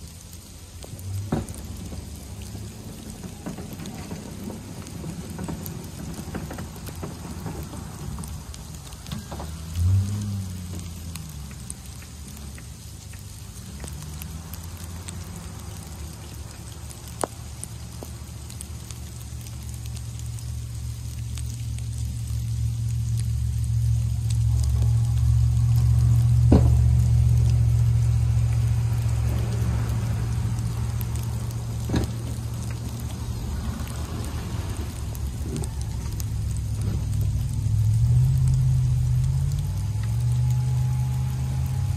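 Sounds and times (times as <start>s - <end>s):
hiss of wet precipitation: 0.0s - 41.9s
truck engines rumbling: 0.0s - 41.9s.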